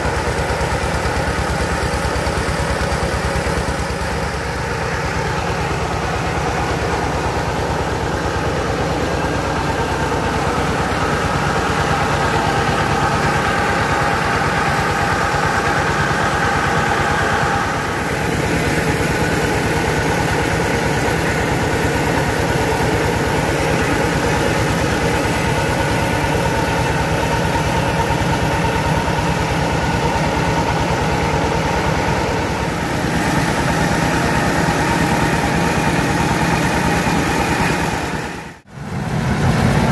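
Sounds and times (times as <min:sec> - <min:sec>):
rice mill machinery droning: 0:00.0 - 0:39.9.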